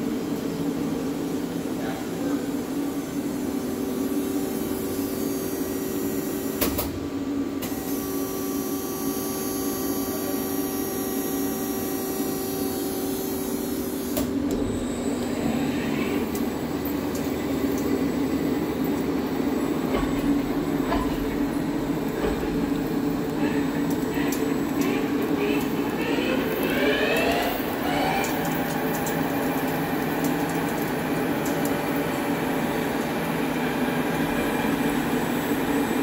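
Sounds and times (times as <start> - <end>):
lathe running hum: 2.5 - 36.0.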